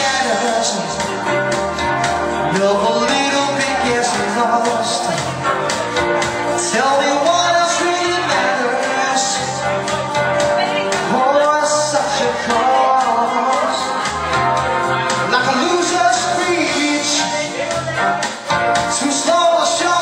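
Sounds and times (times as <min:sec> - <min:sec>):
live band music: 0:00.0 - 0:20.0
person singing: 0:00.0 - 0:20.0.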